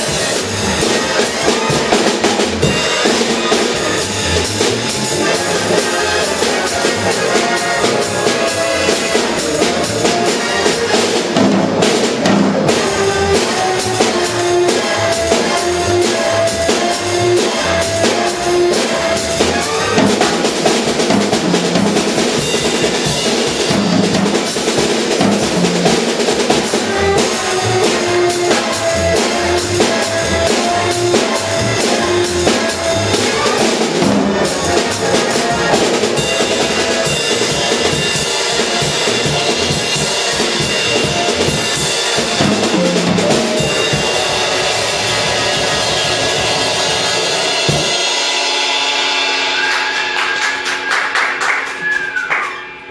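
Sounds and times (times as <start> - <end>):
horn section riffs: 0.0 - 52.9
jazz drum kit playing: 0.0 - 52.9
swing big band music: 0.0 - 52.9.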